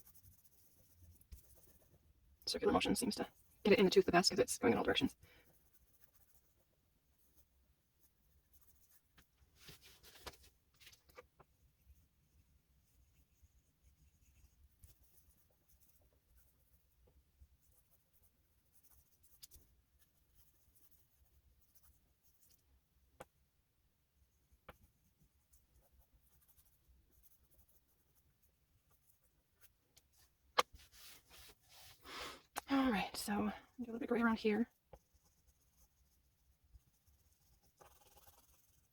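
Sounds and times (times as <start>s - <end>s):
pastel scratching on paper: 0.0s - 2.0s, 4.6s - 11.2s, 11.9s - 22.6s, 24.6s - 32.2s, 34.1s - 38.9s.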